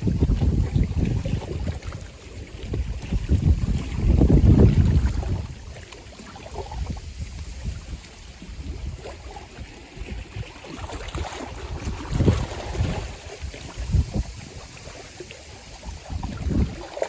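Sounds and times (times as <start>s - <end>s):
small waves lapping: 0.0s - 17.0s
wind buffeting microphone: 0.0s - 17.0s.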